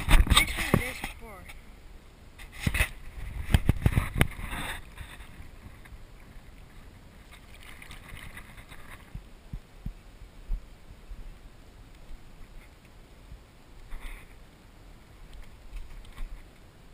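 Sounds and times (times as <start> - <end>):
water splash and swirl: 2.4 - 16.9.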